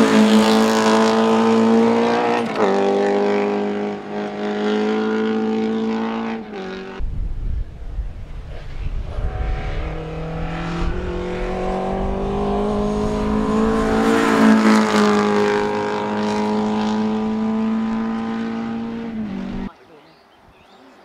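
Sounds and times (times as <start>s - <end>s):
rally car engine passing: 0.0s - 7.0s, 7.7s - 19.7s.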